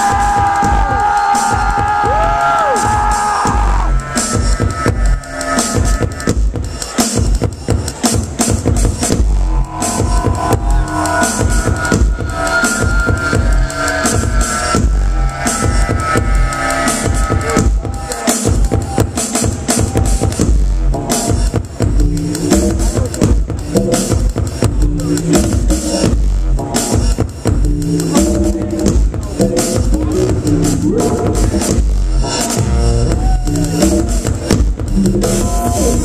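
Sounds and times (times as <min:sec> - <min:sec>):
loud live electronic music: 0:00.0 - 0:36.0.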